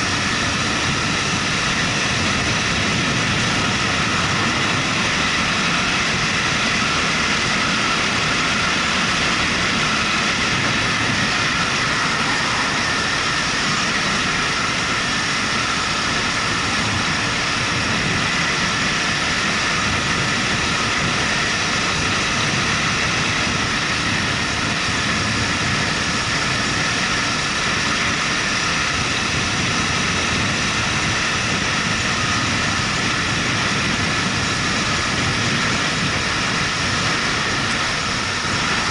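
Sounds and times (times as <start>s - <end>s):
motorcycle engine: 0.0s - 38.9s
wind rush: 0.0s - 38.9s.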